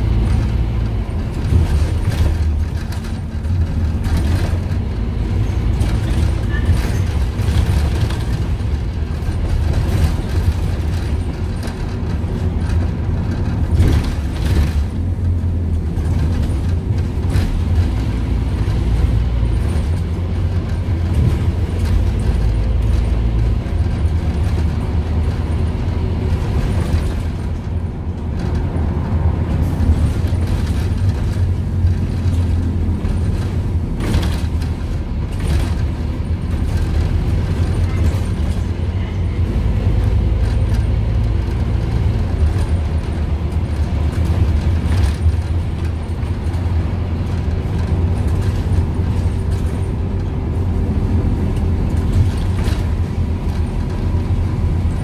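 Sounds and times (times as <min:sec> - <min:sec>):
body rattles and knocks: 0:00.0 - 0:55.0
diesel bus engine droning: 0:00.0 - 0:55.0.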